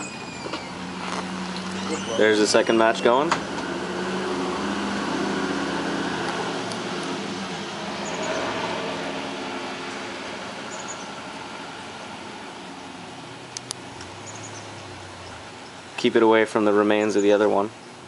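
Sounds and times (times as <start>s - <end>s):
vehicle passing: 0.0s - 17.2s.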